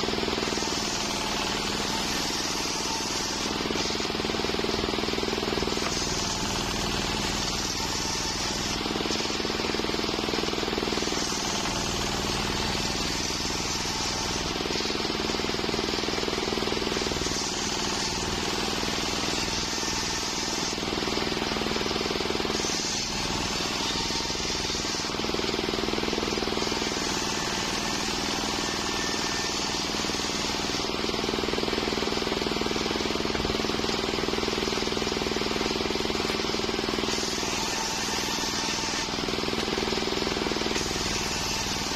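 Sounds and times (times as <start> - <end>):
circular saw cutting log: 0.0 - 41.9.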